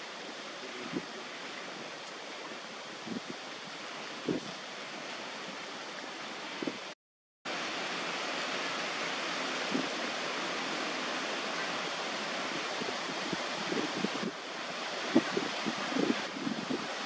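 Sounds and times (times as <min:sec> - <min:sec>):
wind hiss: 0:00.0 - 0:17.0.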